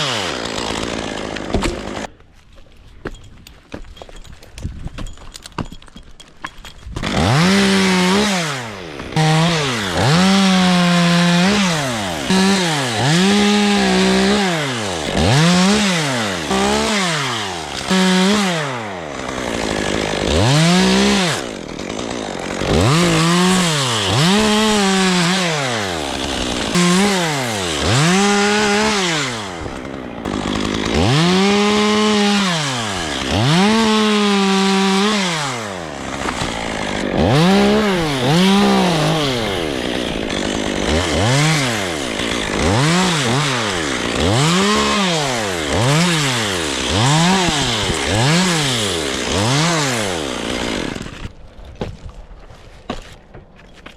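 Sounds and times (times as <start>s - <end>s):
chainsaw revving cutting wood: 0.0s - 2.2s, 6.8s - 51.4s.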